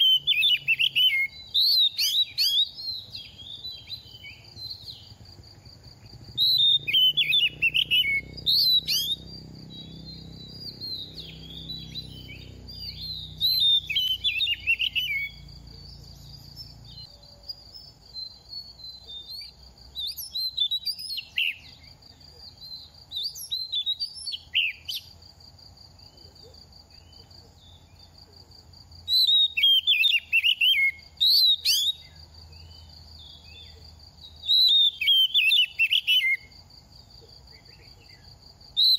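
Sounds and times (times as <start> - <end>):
bird singing whistles and chirps: 0.0 - 25.2, 29.0 - 36.6, 37.5 - 38.9.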